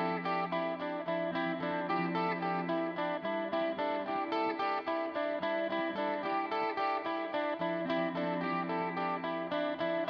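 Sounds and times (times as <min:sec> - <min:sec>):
plucked guitar tune: 0:00.0 - 0:10.0.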